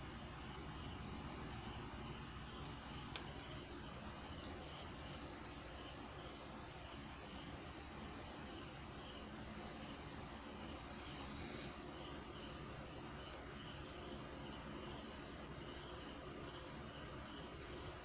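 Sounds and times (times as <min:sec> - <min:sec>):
crickets trilling: 0:00.0 - 0:18.0
low background hum: 0:00.0 - 0:18.0.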